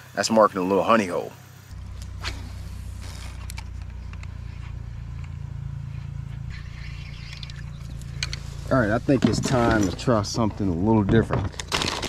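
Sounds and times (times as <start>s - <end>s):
low motor hum: 1.4s - 12.0s.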